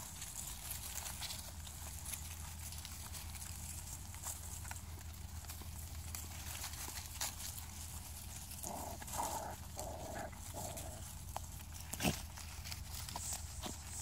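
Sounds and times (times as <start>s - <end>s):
dry leaves crackling: 0.0s - 14.0s
puppies play-fighting: 0.0s - 14.0s.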